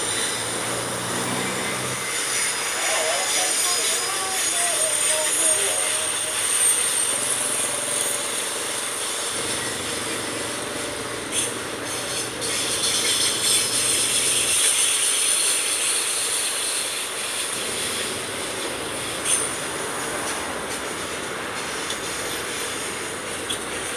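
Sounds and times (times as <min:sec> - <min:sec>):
freight train cars rolling past: 0:00.0 - 0:23.9
high wheel squeal: 0:00.0 - 0:23.9.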